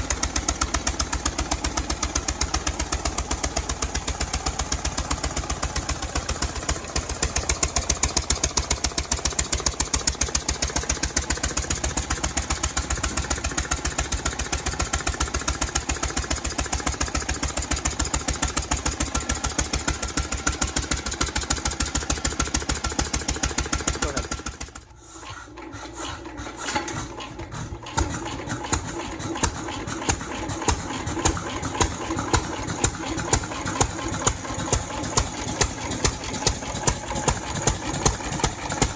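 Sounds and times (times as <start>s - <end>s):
hit-and-miss engine running: 0.0s - 38.9s.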